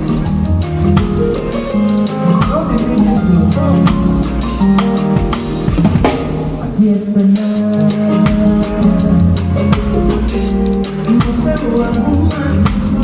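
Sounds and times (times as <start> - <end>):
drum kit hits: 0.0 - 13.0
live band playing: 0.0 - 13.0.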